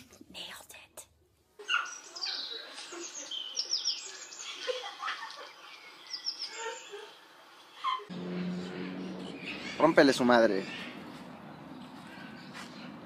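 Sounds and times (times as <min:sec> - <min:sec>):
birds chirping: 0:01.6 - 0:13.0.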